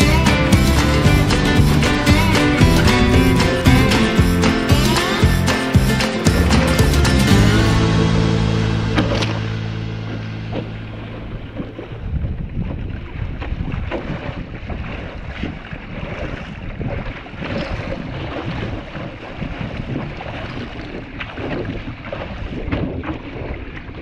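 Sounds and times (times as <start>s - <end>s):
sea water splashing against hull: 0.0s - 24.0s
wind buffeting microphone: 0.4s - 6.0s, 10.3s - 24.0s.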